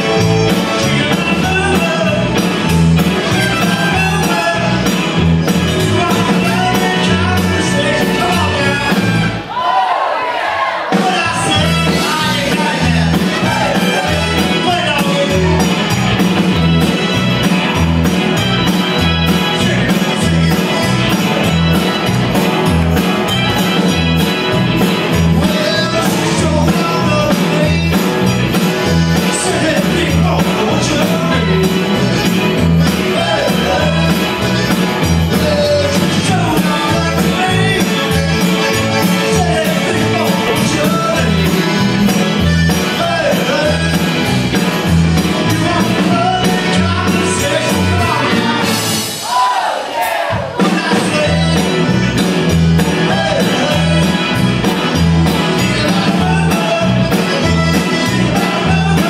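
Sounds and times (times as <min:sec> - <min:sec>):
button accordion: 0:00.0 - 0:09.5, 0:10.9 - 0:49.2, 0:50.5 - 0:59.0
person singing: 0:00.0 - 0:09.7, 0:10.9 - 0:16.6, 0:18.8 - 0:22.5, 0:24.8 - 0:49.5, 0:50.4 - 0:59.0
rock band playing: 0:00.0 - 0:59.0.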